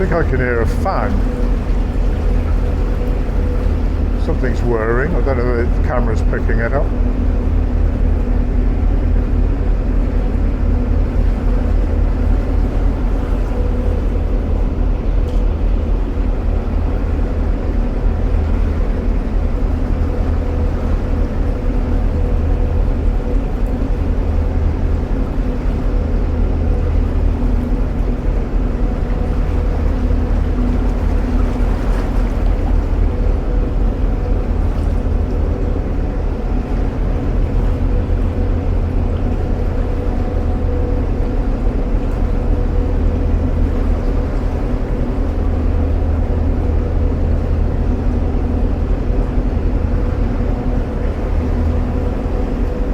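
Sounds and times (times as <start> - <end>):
diesel engine droning in tunnel: 0.0 - 52.9
steady whirring tone: 0.0 - 52.9.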